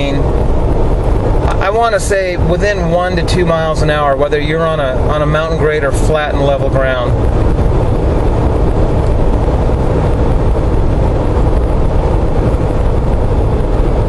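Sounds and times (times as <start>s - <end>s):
car engine road and wind noise: 0.0s - 14.0s.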